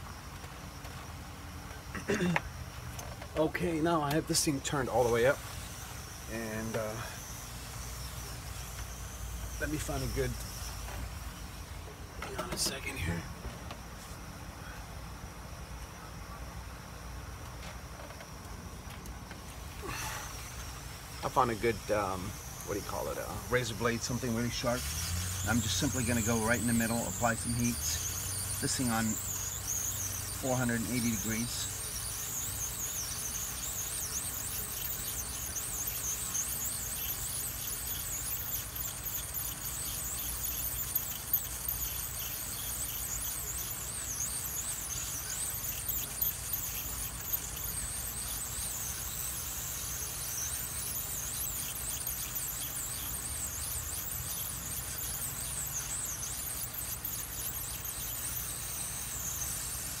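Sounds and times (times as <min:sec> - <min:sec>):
hot air blower hissing: 0:03.5 - 0:13.2, 0:19.5 - 1:00.0.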